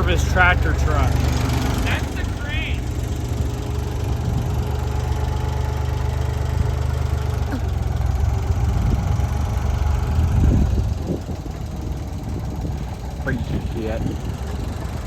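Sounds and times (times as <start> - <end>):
heavy equipment engine rumble: 0.0 - 15.0.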